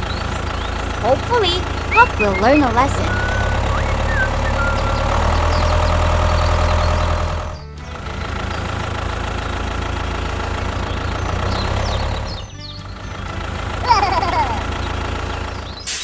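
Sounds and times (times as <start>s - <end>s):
background music: 0.0s - 15.0s
engine running: 0.0s - 16.0s.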